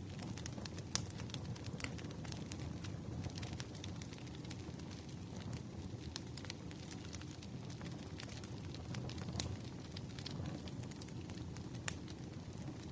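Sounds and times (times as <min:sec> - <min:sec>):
firewood crackling and popping: 0:00.0 - 0:12.9.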